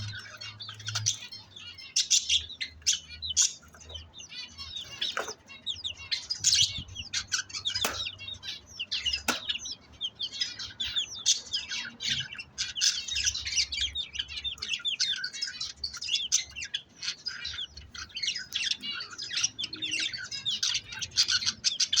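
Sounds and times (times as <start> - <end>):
budgerigars chattering and warbling: 0.0 - 22.0.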